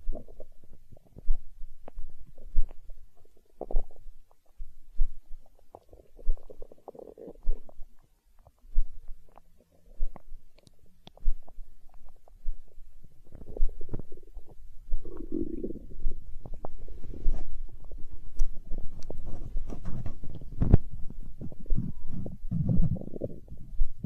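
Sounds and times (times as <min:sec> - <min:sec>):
soft low thumps: 0:00.0 - 0:05.6, 0:08.6 - 0:24.0
stomach growling and gurgling: 0:00.0 - 0:24.0.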